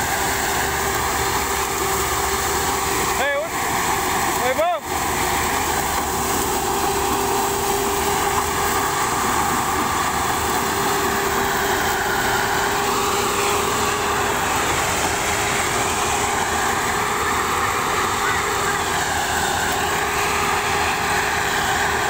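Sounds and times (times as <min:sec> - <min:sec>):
harvester diesel engine droning: 0:00.0 - 0:22.0.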